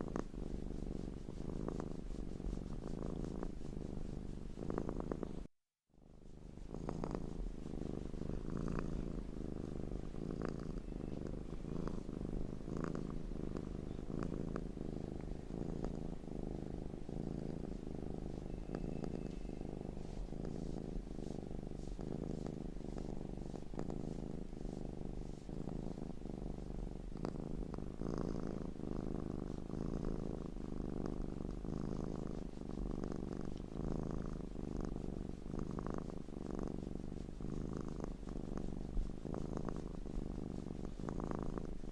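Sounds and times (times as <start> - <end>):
cat purring: 0.0 - 41.9.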